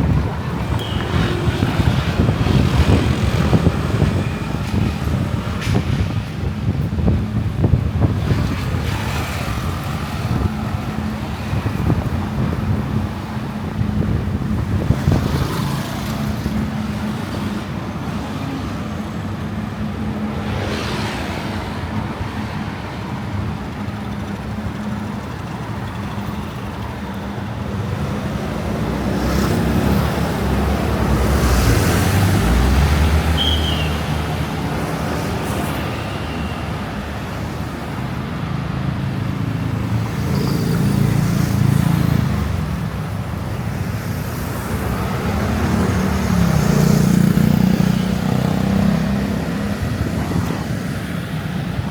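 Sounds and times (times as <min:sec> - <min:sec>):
car and motorbike engines: 0:00.0 - 0:51.9
vehicles passing close by: 0:00.0 - 0:51.9.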